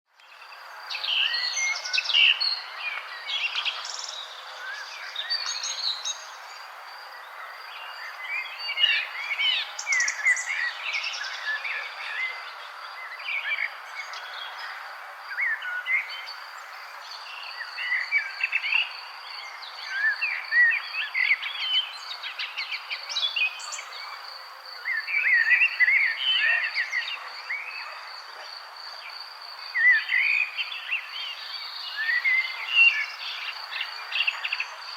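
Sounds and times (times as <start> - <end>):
songbirds chirping and singing: 0.2 - 34.9.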